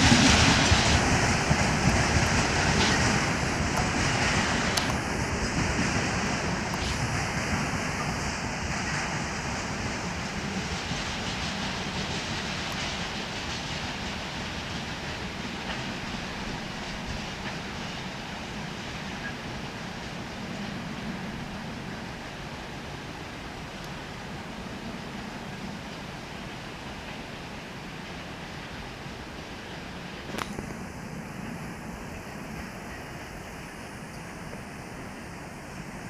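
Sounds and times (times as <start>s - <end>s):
freight train rolling on rails: 0.0s - 36.0s.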